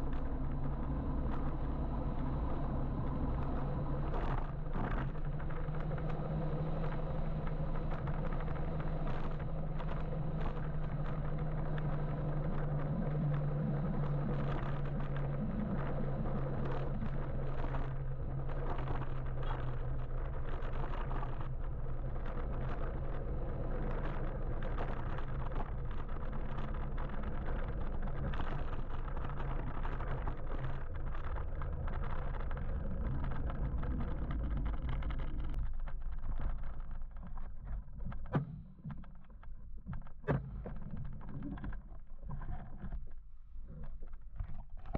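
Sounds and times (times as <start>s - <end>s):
low steady hum: 0.0s - 44.9s
road and wind noise: 0.0s - 44.9s.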